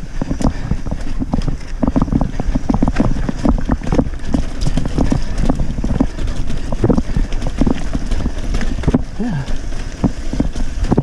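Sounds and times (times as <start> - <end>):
mountain bike rattling: 0.0 - 11.0
wind buffeting microphone: 0.0 - 11.0.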